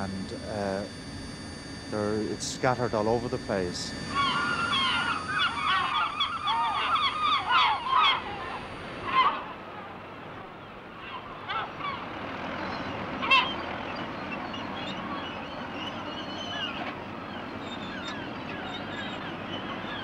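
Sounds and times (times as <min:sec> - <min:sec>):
seabirds calling: 0:00.0 - 0:20.0.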